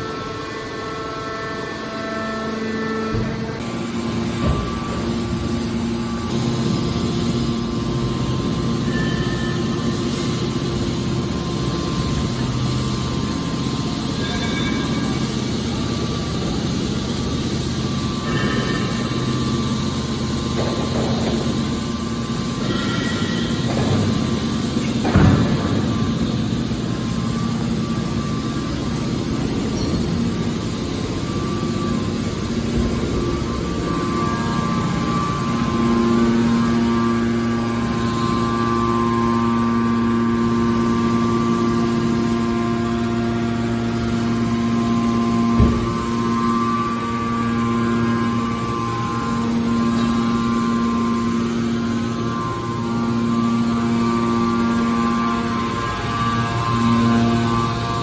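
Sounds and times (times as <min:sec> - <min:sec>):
baler mechanical hum: 0:00.0 - 0:58.0.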